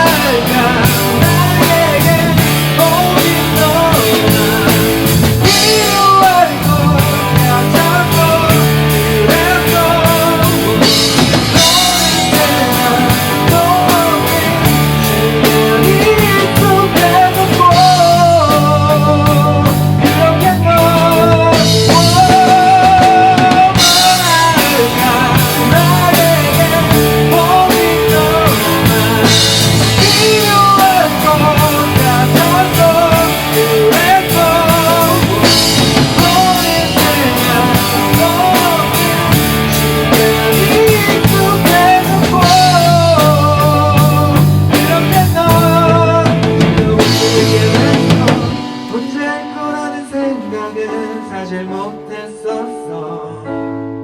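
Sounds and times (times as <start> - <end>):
rock band playing: 0.0 - 50.6
wavering lead guitar melody: 0.0 - 50.9.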